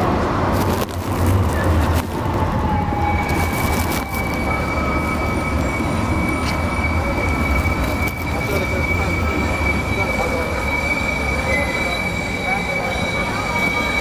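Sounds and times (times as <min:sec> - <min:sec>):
tram wheels squealing on rails: 0:00.0 - 0:14.0.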